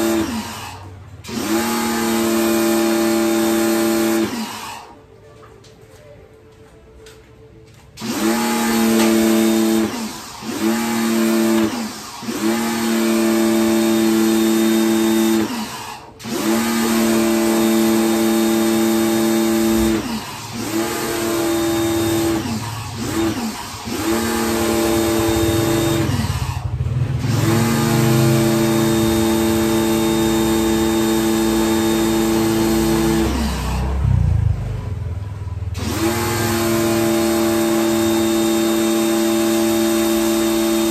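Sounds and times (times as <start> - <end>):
pressure washer motor humming: 0.0 - 5.0, 8.0 - 34.4, 35.6 - 40.9.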